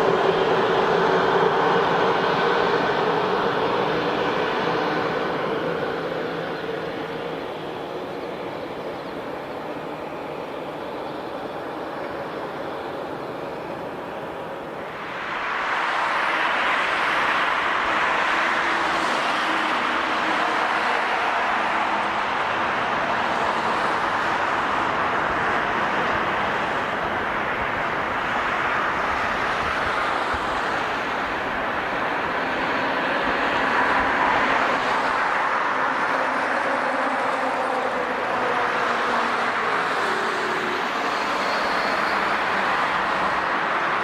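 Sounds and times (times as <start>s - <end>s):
jet engines running: 0.0s - 44.0s.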